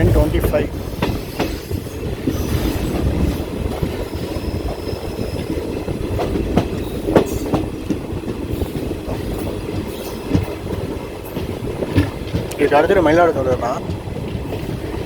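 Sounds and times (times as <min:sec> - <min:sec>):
train coach rumble: 0:00.0 - 0:15.0
wheels clicking over rail joints: 0:00.0 - 0:15.0.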